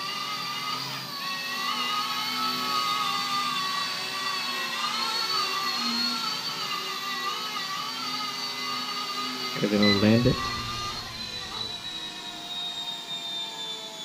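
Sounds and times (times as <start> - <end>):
toy helicopter rotors whining: 0.0 - 14.0.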